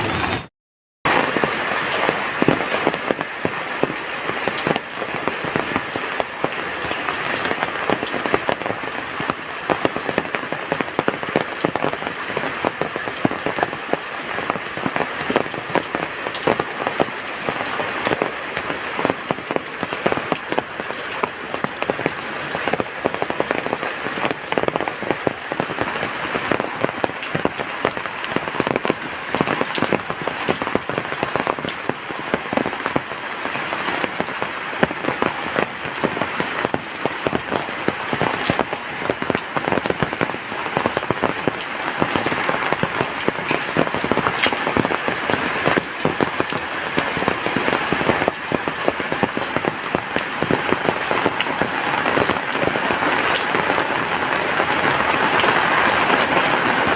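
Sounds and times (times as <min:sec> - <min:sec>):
heavy rain falling: 0:01.1 - 0:56.9.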